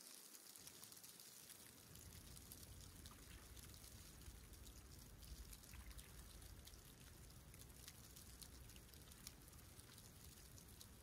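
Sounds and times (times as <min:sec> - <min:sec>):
seawater lapping and trickling: 0:00.0 - 0:11.0
low steady rumble: 0:01.8 - 0:11.0.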